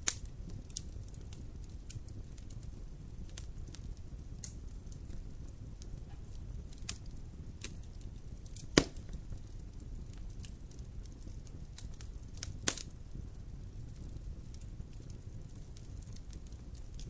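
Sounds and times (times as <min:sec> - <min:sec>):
loud pops from fire: 0:00.0 - 0:17.0
wood fire crackling: 0:00.0 - 0:17.0.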